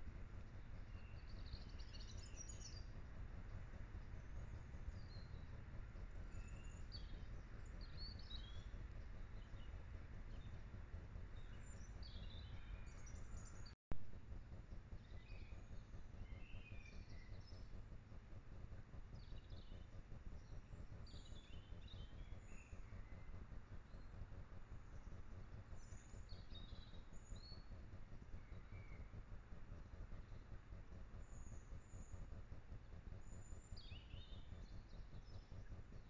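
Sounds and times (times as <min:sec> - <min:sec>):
low background noise: 0:00.0 - 0:36.0.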